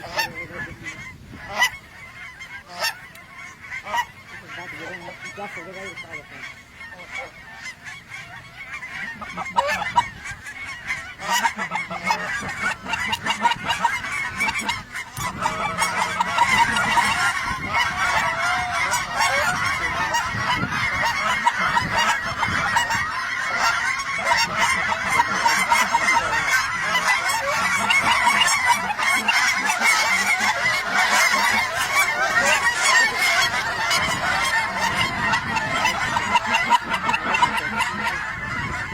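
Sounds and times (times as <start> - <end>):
flock of geese honking: 0.0 - 38.9.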